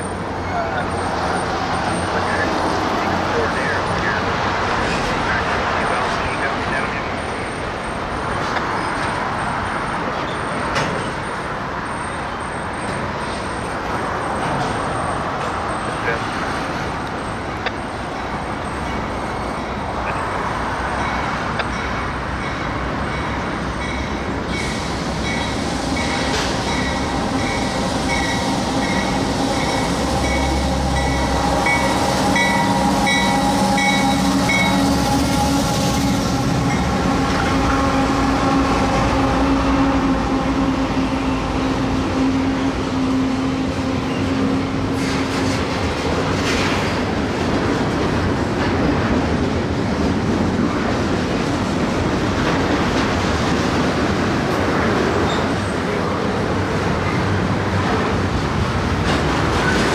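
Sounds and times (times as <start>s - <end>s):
diesel locomotives running: 0.0s - 59.9s
train cars rumbling on rails: 0.0s - 59.9s.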